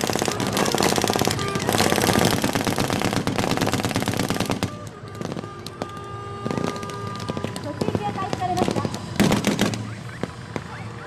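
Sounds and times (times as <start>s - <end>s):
machine-gun fire: 0.0s - 5.5s, 6.5s - 10.7s.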